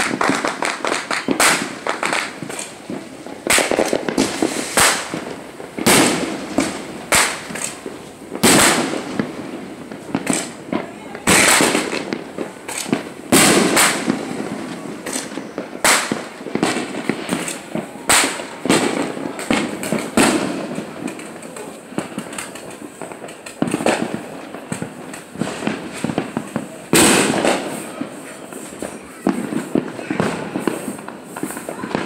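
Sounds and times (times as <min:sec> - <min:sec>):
fireworks banging: 0:00.0 - 0:32.0
fireworks popping and crackling: 0:00.0 - 0:32.0.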